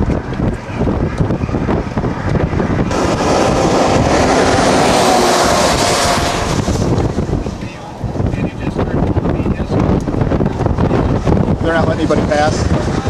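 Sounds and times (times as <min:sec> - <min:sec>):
vehicle passing on highway: 0:00.0 - 0:09.3, 0:09.9 - 0:13.0
wind buffeting microphone: 0:00.0 - 0:13.0.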